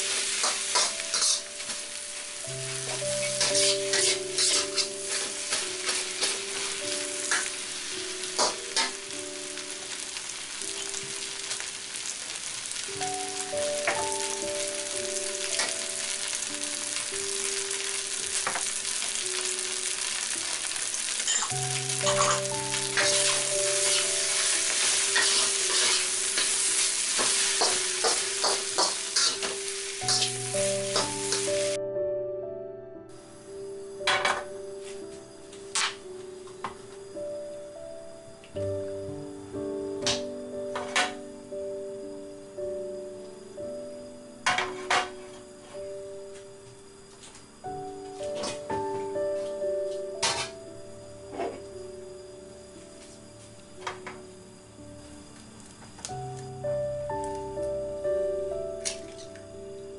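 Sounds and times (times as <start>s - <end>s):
rice sizzling in a wok: 0.0s - 31.8s, 33.2s - 37.9s, 38.6s - 59.9s
soft background music: 0.0s - 59.9s.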